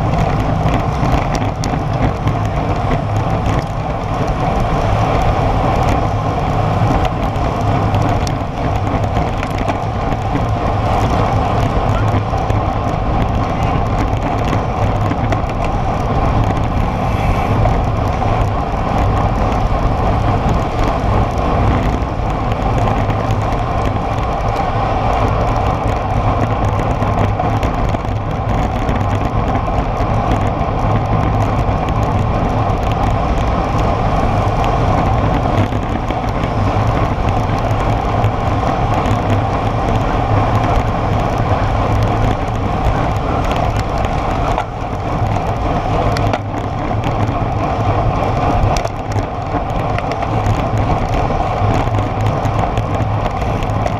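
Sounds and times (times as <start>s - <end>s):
tyre noise on asphalt: 0.0s - 53.9s
wind rush on microphone: 0.0s - 53.9s.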